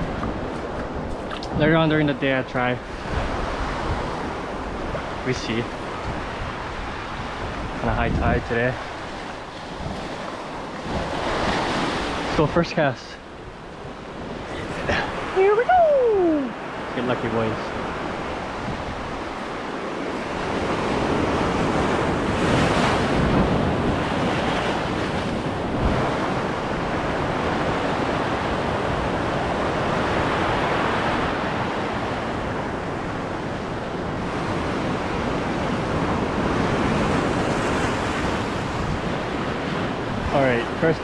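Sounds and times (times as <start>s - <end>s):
surf washing over rocks: 0.0s - 41.0s.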